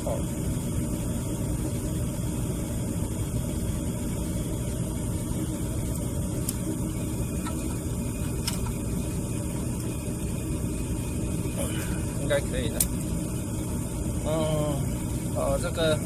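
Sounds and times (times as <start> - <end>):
gas furnace rumbling: 0.0 - 16.0.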